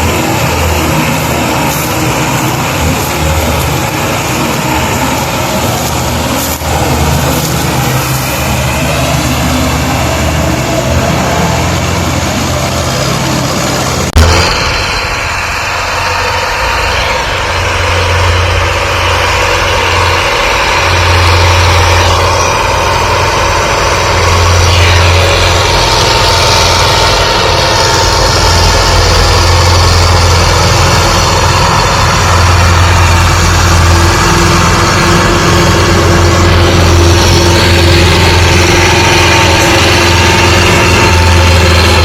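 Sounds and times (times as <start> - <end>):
tractor diesel engine drone: 0.0 - 42.0.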